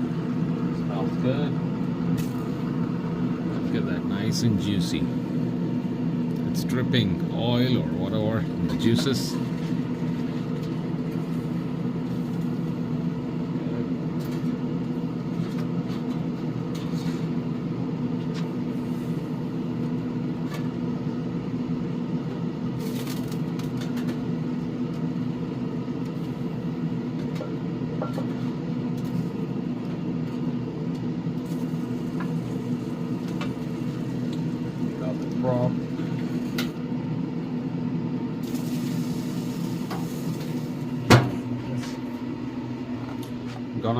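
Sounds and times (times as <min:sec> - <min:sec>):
fan humming with low drone: 0:00.0 - 0:43.9.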